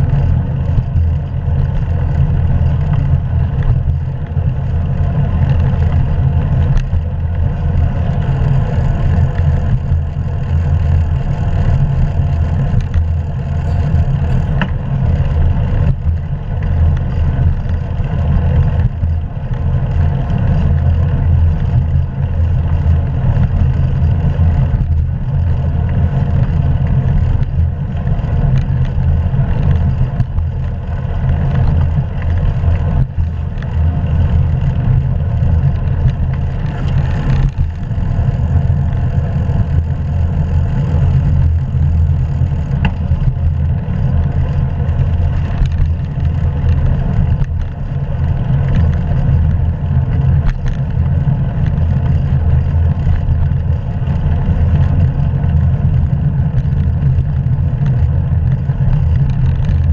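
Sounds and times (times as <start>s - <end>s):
bicycle tyre and road noise: 0.0s - 59.9s.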